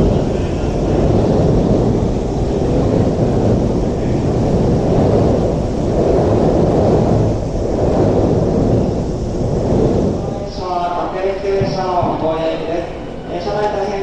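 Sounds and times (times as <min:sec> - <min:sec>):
electric train running past: 0:00.0 - 0:11.8.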